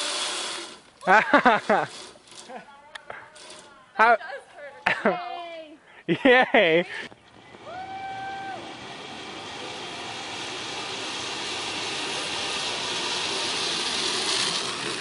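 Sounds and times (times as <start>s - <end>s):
zip-line pulleys whirring on cable: 0.0s - 4.1s, 7.0s - 15.0s.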